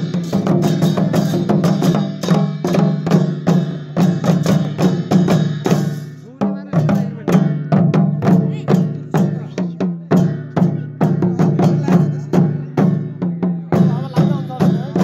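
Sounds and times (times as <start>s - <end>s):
barrel drums beaten with sticks: 0.0s - 15.0s.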